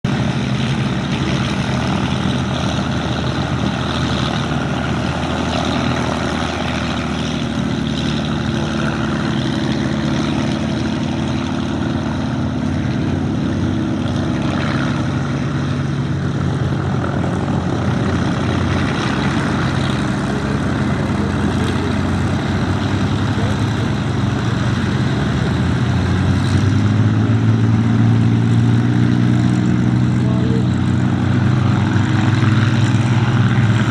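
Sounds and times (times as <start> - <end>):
propeller aircraft engines droning: 0.0 - 33.9.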